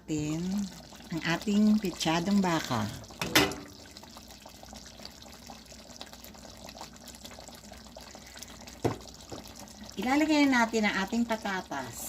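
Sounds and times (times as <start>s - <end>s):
stew bubbling in a pot: 0.0s - 12.0s.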